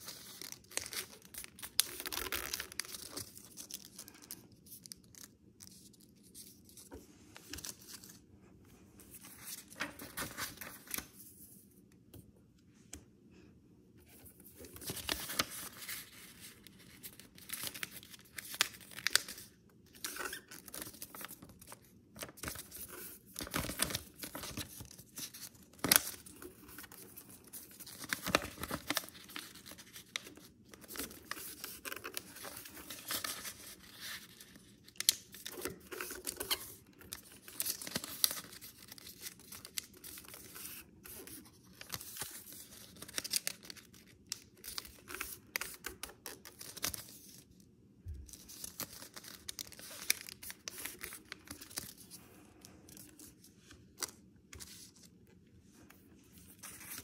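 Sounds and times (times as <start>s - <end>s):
paper rustling and crinkling: 0.0s - 8.3s, 9.0s - 11.6s, 14.0s - 47.5s, 48.2s - 57.0s.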